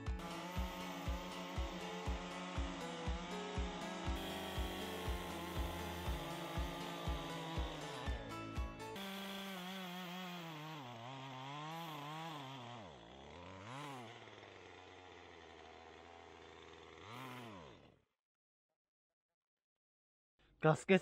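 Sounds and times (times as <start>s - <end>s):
chainsaw engine running unevenly: 0.0s - 18.0s.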